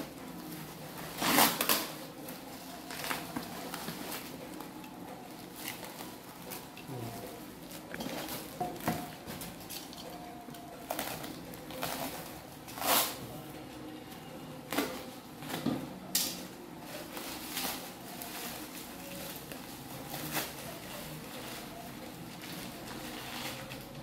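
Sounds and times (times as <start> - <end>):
bubble wrap rustling and crinkling: 0.0 - 13.5, 14.6 - 24.0.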